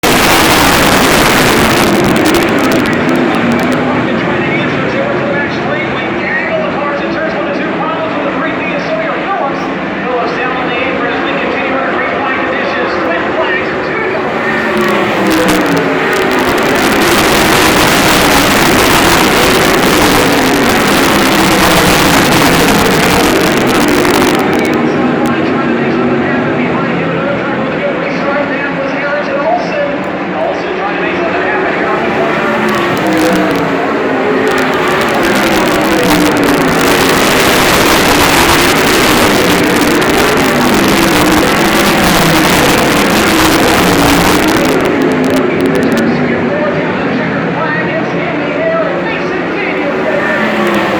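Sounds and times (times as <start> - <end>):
race car engines roaring: 0.0 - 50.9.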